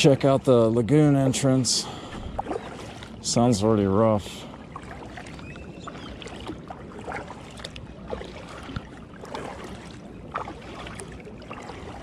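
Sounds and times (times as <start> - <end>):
kayak paddle splashing water: 0.0 - 12.0.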